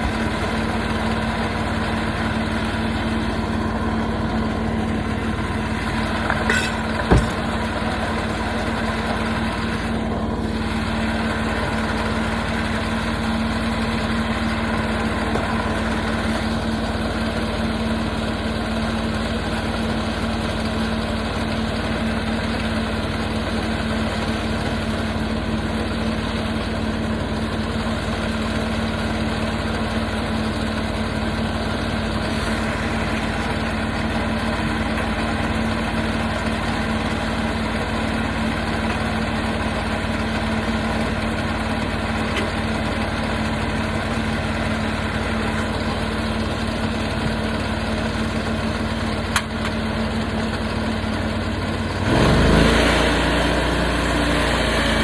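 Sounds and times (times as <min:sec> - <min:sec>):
gasoline engine idling and revving: 0:00.0 - 0:55.0.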